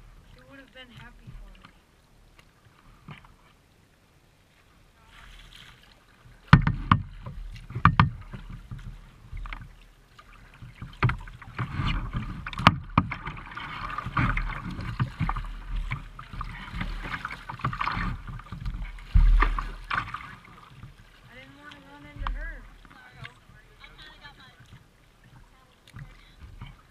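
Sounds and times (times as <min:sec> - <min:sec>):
paddle knocks and splashes: 0:00.0 - 0:03.6, 0:05.0 - 0:26.9
water rushing along hull: 0:00.0 - 0:26.9.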